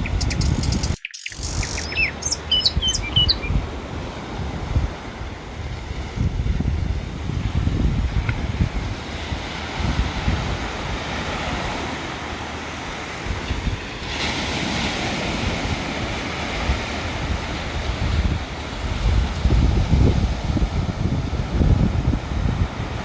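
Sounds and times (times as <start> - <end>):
wind buffeting microphone: 0.0 - 23.0
ocean surf washing in: 1.6 - 23.0.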